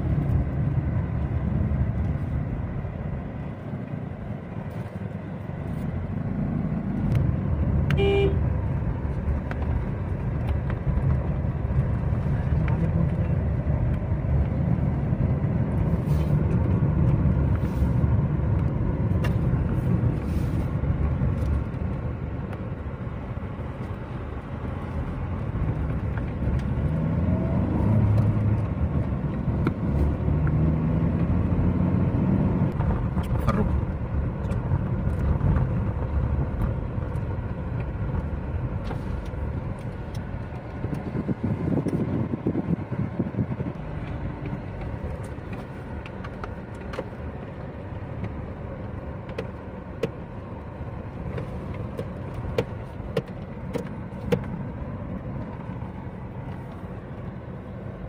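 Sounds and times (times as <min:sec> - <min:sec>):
car engine: 0:00.0 - 0:58.0
road noise inside car: 0:00.0 - 0:58.0.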